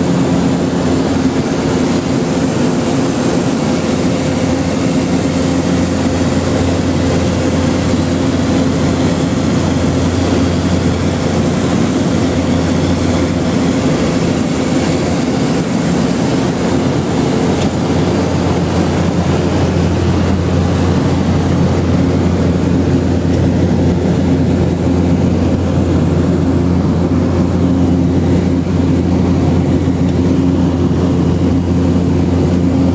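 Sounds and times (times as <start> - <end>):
high engine whine: 0.0 - 32.9
turboprop engine drone in cabin: 0.0 - 32.9.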